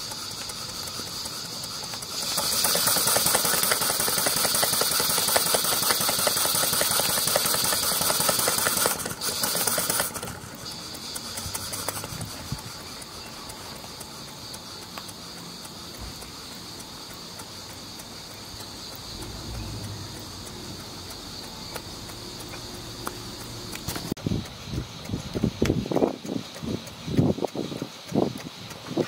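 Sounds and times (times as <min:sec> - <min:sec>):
steam engine hissing: 0:00.0 - 0:29.0
valve gear ticking: 0:00.0 - 0:29.0.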